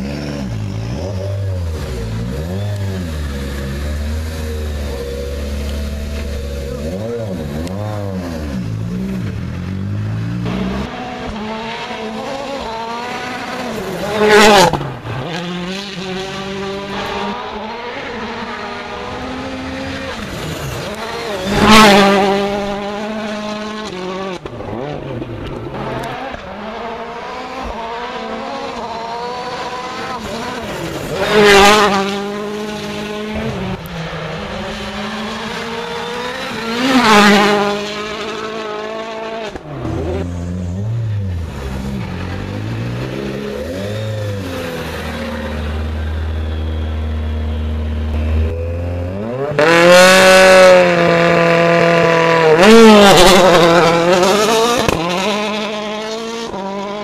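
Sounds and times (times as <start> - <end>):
rally car engine revving: 0.0 - 57.0
rally car passing at speed: 0.0 - 57.0.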